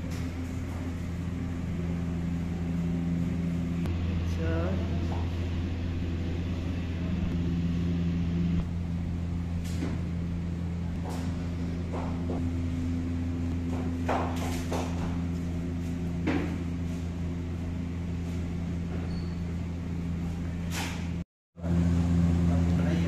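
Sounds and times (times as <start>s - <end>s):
machinery hum: 0.0s - 23.0s.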